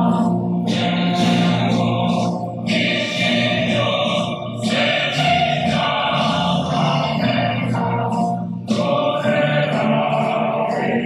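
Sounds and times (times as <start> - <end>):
choir singing held notes: 0.0 - 11.0.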